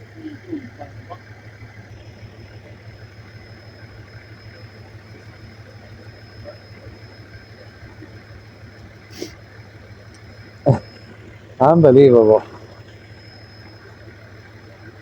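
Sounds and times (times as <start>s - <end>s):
thin high whine: 0.0s - 15.0s
vehicle engine idling: 0.0s - 15.0s.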